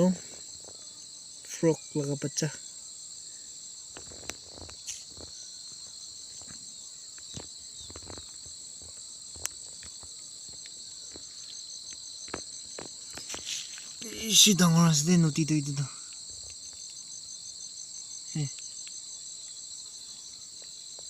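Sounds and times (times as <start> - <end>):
insects buzzing and trilling: 0.0 - 21.0.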